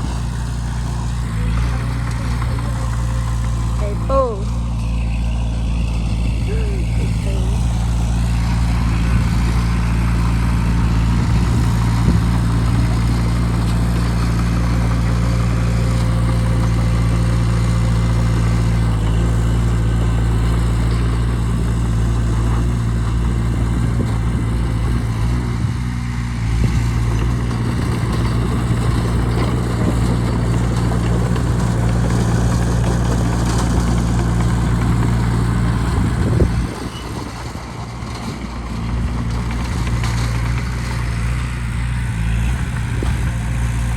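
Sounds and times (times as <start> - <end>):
bulldozer diesel engine droning: 0.0 - 43.9.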